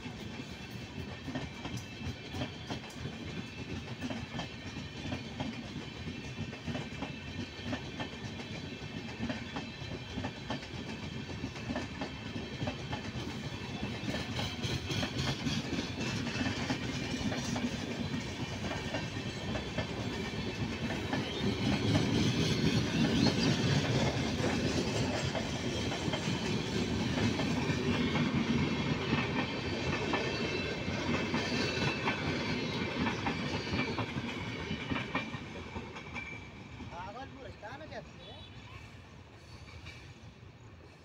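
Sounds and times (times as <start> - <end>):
freight train wheels clattering: 0.0 - 38.4.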